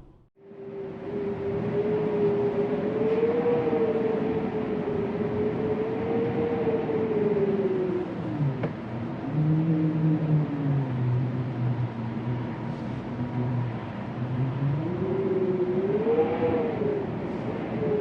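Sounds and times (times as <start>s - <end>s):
wind moaning and howling: 0.0s - 18.0s.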